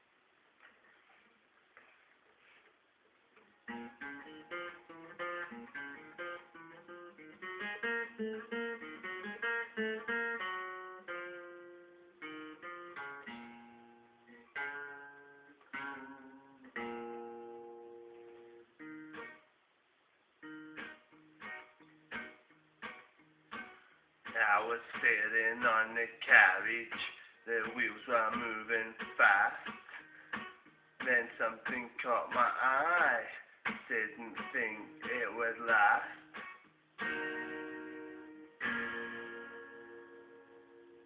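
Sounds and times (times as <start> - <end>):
acoustic guitar: 0.6 - 41.0.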